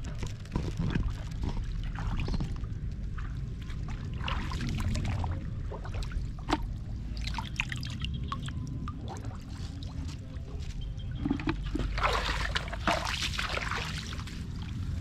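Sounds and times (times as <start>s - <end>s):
muddy water sloshing: 0.0s - 15.0s
small water drips and splashes: 0.2s - 15.0s.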